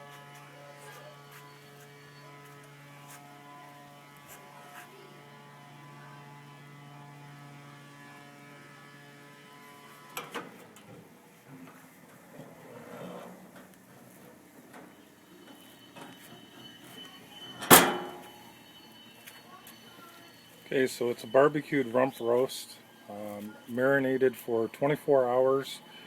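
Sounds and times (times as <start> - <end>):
rotisserie motor humming: 0.5 - 26.0.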